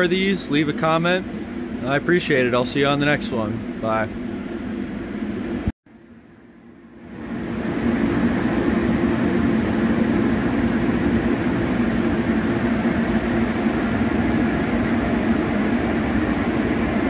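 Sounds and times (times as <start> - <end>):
diesel generator drone: 0.0 - 17.0.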